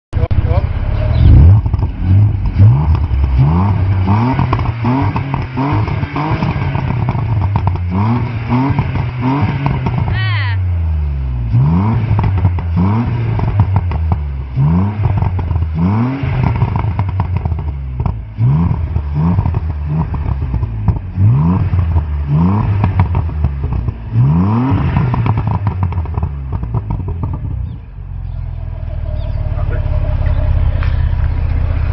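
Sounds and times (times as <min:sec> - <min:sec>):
exhaust crackles and pops: 0:00.1 - 0:10.3, 0:11.5 - 0:31.9
car engine revving: 0:00.2 - 0:31.9.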